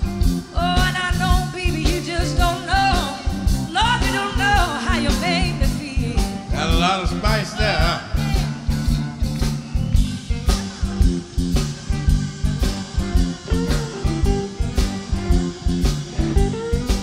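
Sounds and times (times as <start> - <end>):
blues band playing: 0.0 - 17.0
wavering guitar lead line: 0.1 - 17.0.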